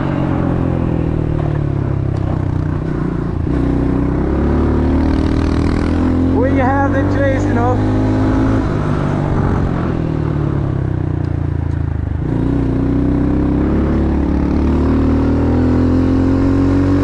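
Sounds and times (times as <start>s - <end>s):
vehicle engine running hard: 0.0s - 17.0s.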